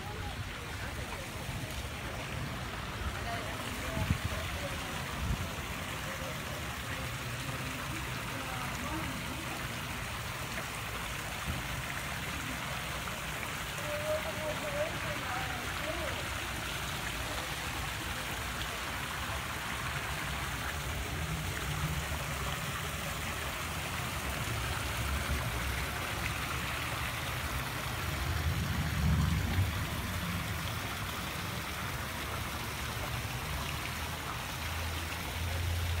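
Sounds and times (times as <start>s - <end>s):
fountain splashing: 0.0s - 36.0s.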